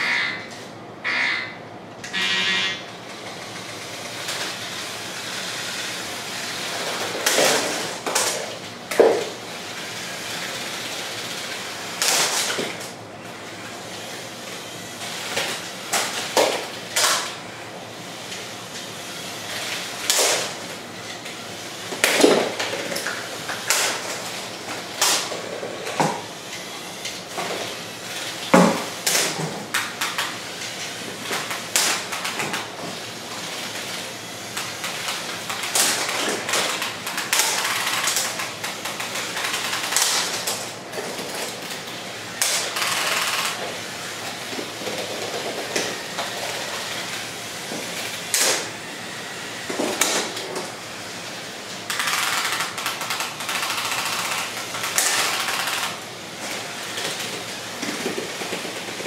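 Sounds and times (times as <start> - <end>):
small electric motors whirring: 2.1 - 12.6, 13.2 - 40.6, 41.2 - 59.0.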